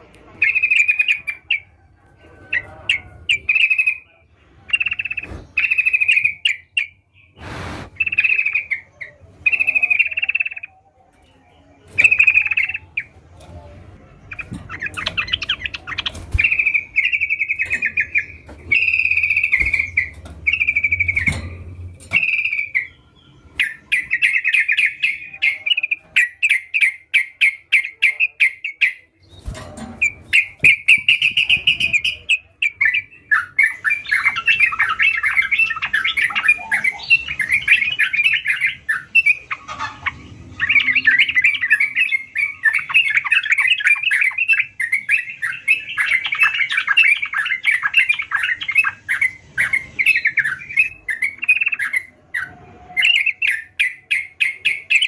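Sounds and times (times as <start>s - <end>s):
bird singing chattering phrases: 0.0s - 1.8s, 2.5s - 55.0s.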